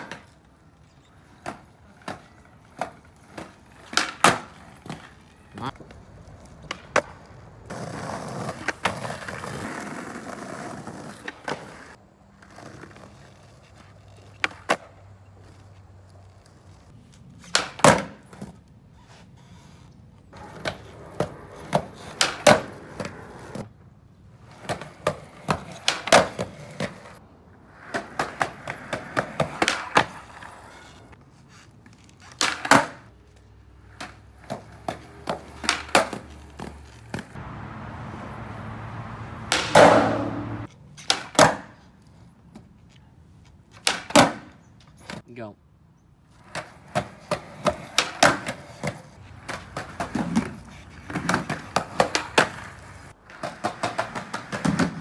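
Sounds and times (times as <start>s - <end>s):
skateboard clacking on pavement: 0.0s - 18.7s, 20.4s - 23.7s, 24.4s - 30.9s, 31.9s - 33.1s, 33.8s - 37.5s, 39.5s - 45.2s, 46.4s - 55.0s
skateboard wheels rolling: 0.0s - 45.2s, 46.1s - 55.0s.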